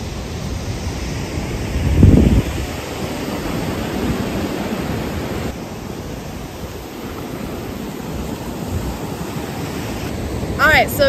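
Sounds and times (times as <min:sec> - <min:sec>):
ocean surf breaking: 0:00.0 - 0:11.0
wind on microphone: 0:00.0 - 0:11.0.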